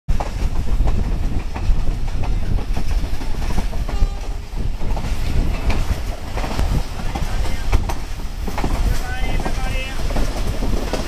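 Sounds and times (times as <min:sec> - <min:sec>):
train rumbling on track: 0:00.1 - 0:11.0
wheels clicking over rail joints: 0:00.1 - 0:11.0.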